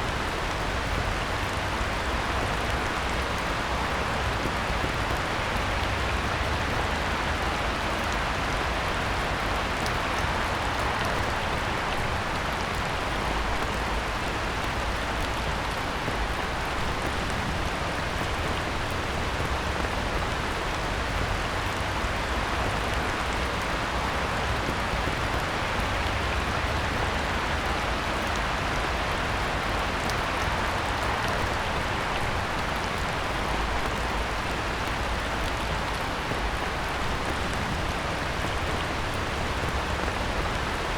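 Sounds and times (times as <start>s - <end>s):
heavy rain on a pond: 0.0s - 40.9s.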